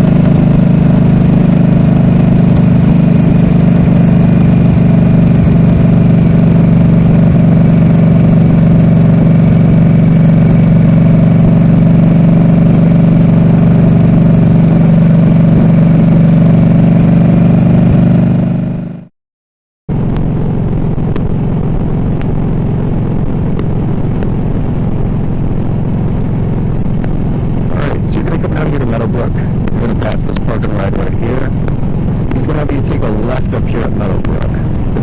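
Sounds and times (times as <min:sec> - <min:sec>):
motorcycle engine running: 0:00.0 - 0:19.1, 0:19.9 - 0:35.0.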